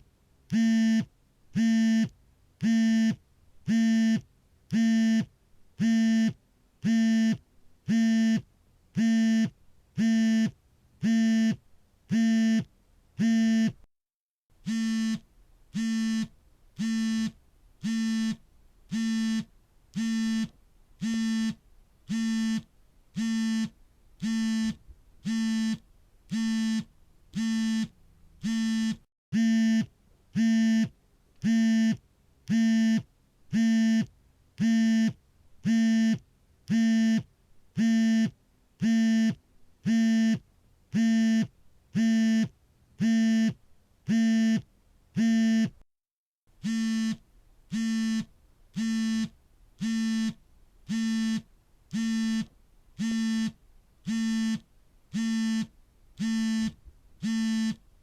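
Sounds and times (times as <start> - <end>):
smartphone vibrating: 0.5 - 8.4, 9.0 - 13.8, 14.6 - 40.4, 41.0 - 44.6, 45.2 - 45.7, 46.6 - 57.8.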